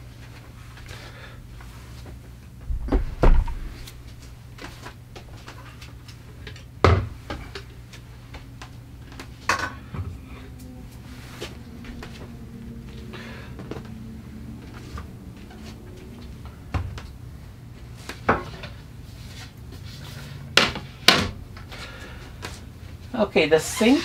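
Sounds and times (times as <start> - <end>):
steady low hum: 0.0 - 23.4.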